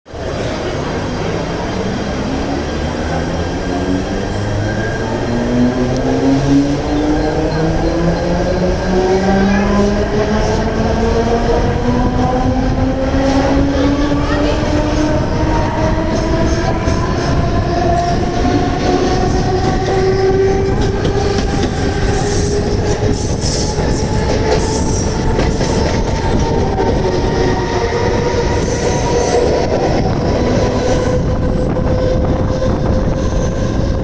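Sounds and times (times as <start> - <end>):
wheels rumbling on track: 0.1 - 34.0.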